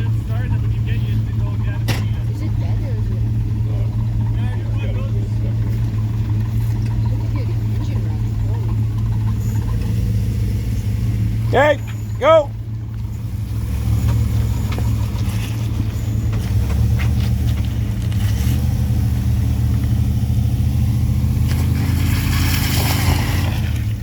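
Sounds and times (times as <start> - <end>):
off-road vehicle engines running: 0.0 - 24.0.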